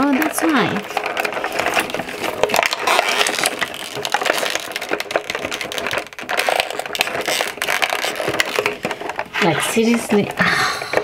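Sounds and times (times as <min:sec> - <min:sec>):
cardboard crackling and tearing: 0:00.0 - 0:10.0.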